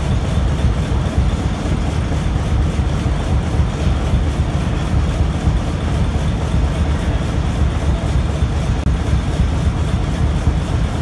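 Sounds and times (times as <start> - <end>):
stationary engines running: 0.0 - 11.0.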